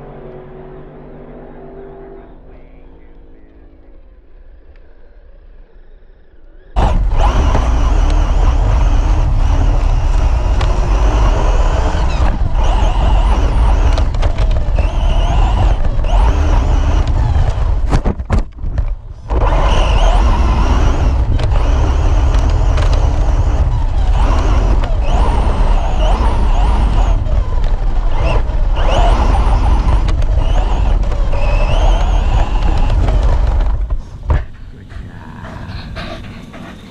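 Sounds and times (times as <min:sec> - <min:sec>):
electric motor whine: 0:06.7 - 0:36.9
tyres rushing over ground: 0:06.8 - 0:36.9.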